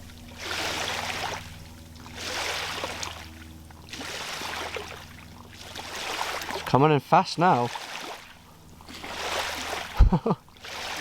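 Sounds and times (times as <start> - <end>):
steady low hum: 0.0 - 11.0
water washing against bank: 0.0 - 11.0.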